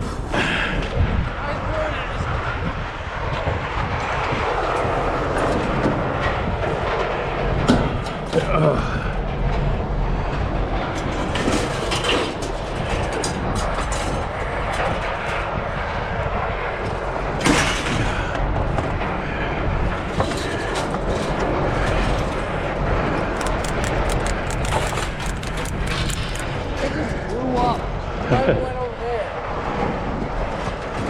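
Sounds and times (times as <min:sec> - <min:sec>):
engine rumble: 0:00.0 - 0:31.0.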